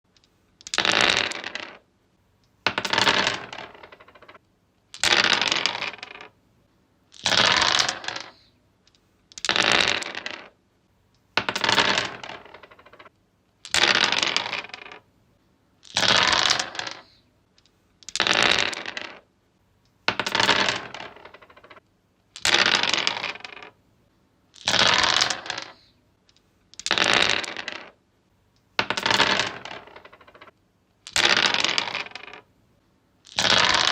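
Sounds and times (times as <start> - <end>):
dice rolling on wood: 0.2 - 1.9, 2.6 - 6.4, 7.1 - 10.6, 11.2 - 15.1, 15.8 - 19.3, 19.9 - 23.8, 24.5 - 28.0, 28.6 - 32.5, 33.2 - 33.9.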